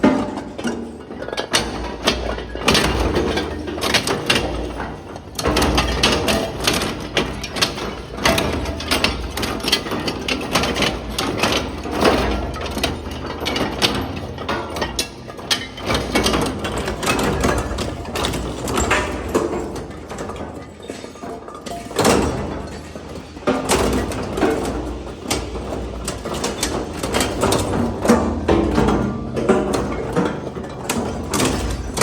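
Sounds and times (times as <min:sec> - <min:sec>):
breaking metal clanks and cracks: 0:00.0 - 0:32.0.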